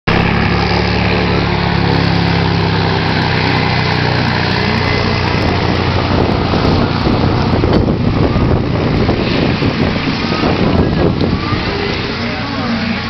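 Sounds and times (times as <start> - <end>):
vehicle engine idling: 0.1 - 13.0.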